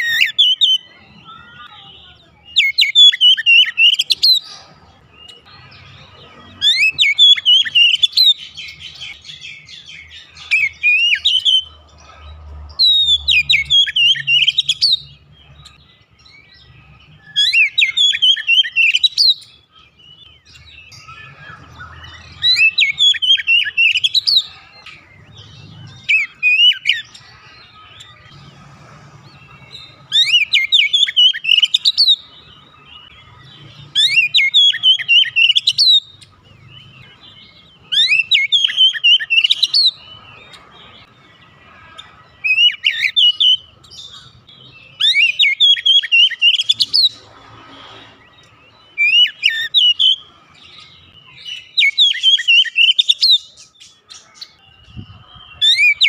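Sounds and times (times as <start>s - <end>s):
bird singing whistled notes: 0.0s - 11.8s, 12.7s - 28.5s, 29.3s - 47.3s, 47.9s - 56.0s.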